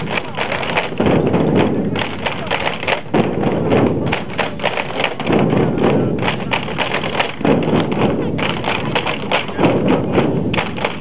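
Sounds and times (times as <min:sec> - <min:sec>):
drumsticks beating a giant drum: 0:00.0 - 0:11.0.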